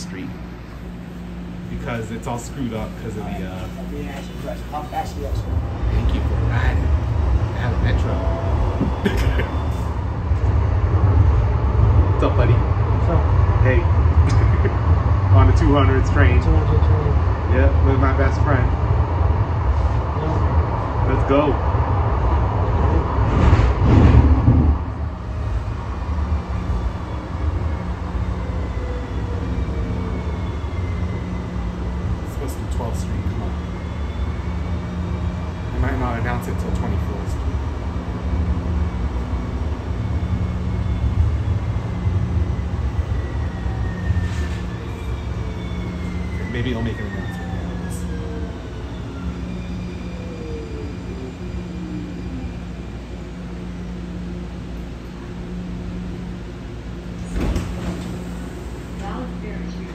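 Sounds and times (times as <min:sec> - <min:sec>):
traction motors whining: 0:00.0 - 0:59.9
train running gear rumble: 0:00.0 - 0:59.9.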